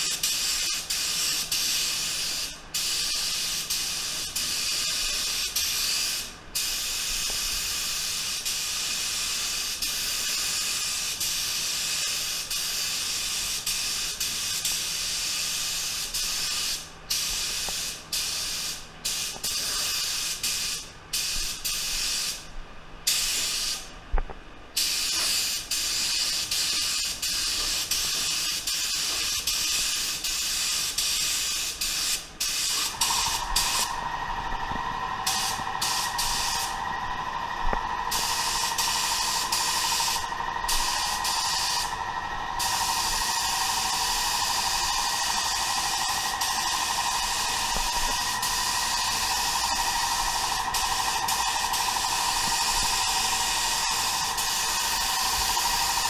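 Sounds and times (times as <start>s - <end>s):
spray gun hissing: 0.0s - 22.4s, 23.1s - 23.9s, 24.8s - 56.0s.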